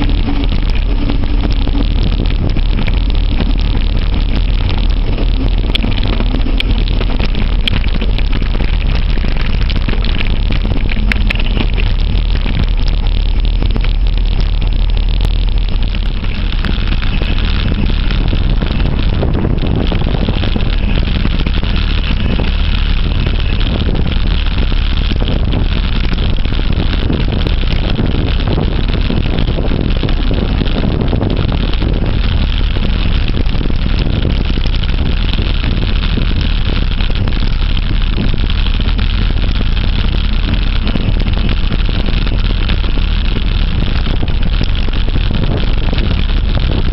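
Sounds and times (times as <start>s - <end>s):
tyres rolling rumble: 0.0s - 46.9s
wind buffeting microphone: 0.0s - 46.9s.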